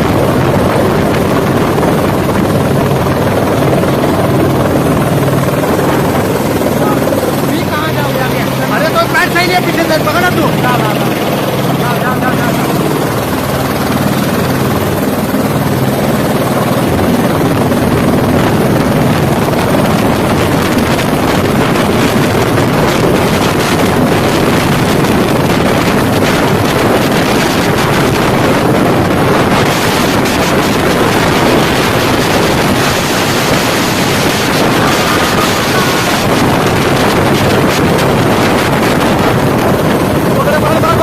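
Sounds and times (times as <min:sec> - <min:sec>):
helicopter running: 0:00.0 - 0:41.0
wind buffeting microphone: 0:00.0 - 0:41.0.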